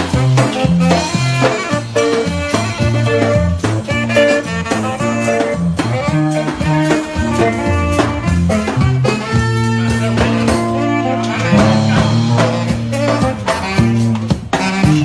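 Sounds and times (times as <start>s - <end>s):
drum strikes: 0.0s - 15.0s
lively swing tune: 0.0s - 15.0s.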